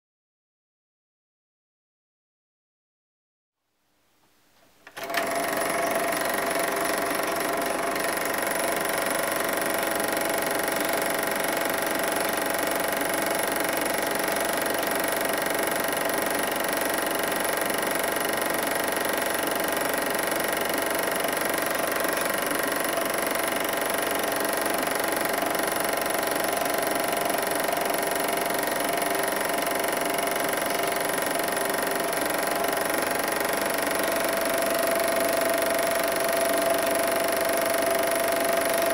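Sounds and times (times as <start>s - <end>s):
film projector whirring: 4.9s - 38.9s.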